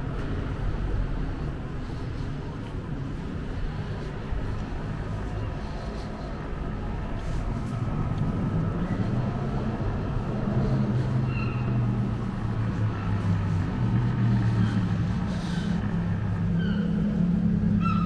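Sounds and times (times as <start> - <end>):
city street traffic: 0.0 - 18.0
vehicle engine humming: 0.0 - 18.0.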